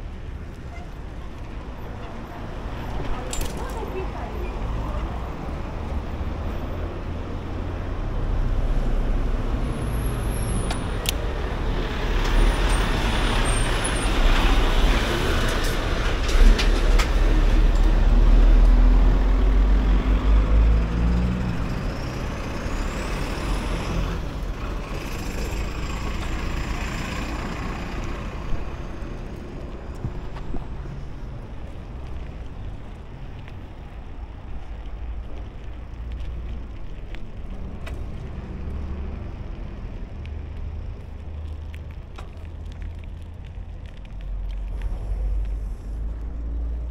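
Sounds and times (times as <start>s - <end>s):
traffic noise: 0.0s - 46.9s
wind and road noise: 0.0s - 46.9s.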